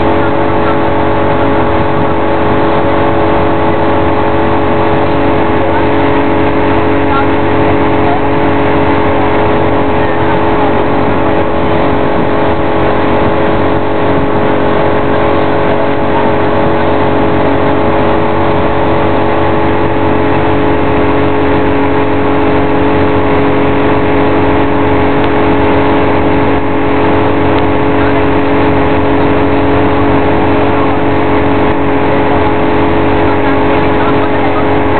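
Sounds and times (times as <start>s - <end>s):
motorboat engine running: 0.0s - 34.9s
rushing wind: 0.0s - 34.9s
water noise: 0.0s - 34.9s.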